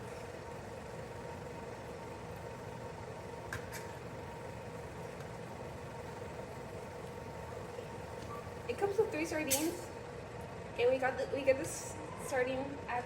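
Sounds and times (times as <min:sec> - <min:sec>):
mechanical hum with whine: 0:00.0 - 0:13.0.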